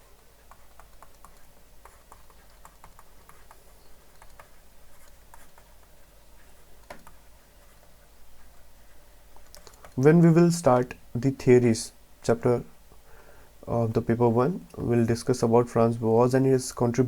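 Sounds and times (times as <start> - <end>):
quiet room hiss: 0.0 - 17.0.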